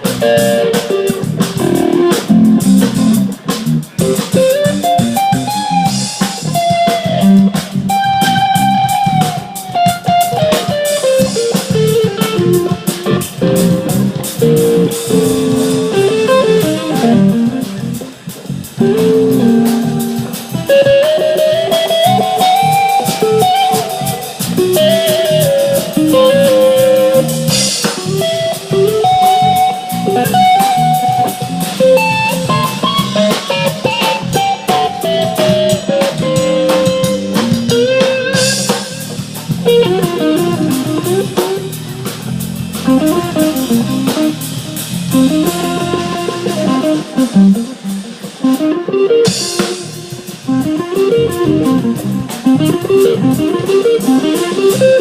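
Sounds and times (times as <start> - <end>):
drum kit: 0.0 - 55.0
electric guitar lead lines: 0.0 - 55.0.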